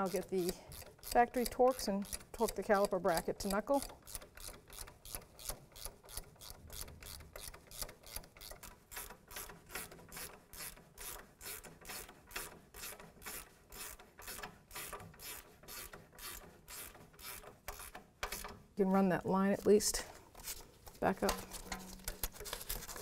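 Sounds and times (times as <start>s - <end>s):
hand ratchet clicking: 0.0s - 18.6s.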